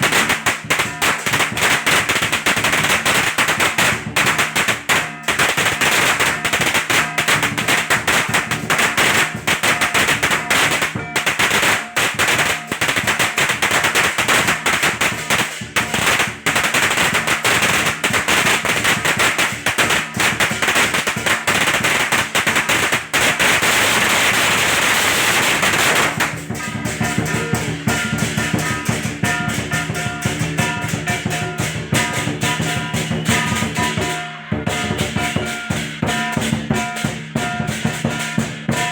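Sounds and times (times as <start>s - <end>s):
firecrackers crackling: 0.0s - 38.9s
music with drums and percussion: 0.0s - 38.9s.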